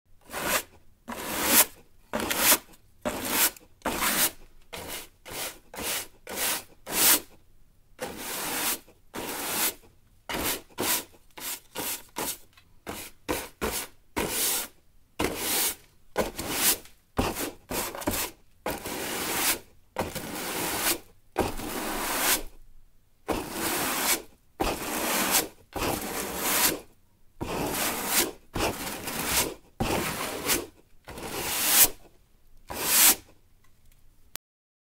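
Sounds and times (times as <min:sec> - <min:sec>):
broom sweeping a floor: 0:00.2 - 0:07.4, 0:08.0 - 0:22.6, 0:23.3 - 0:32.1, 0:32.7 - 0:33.3.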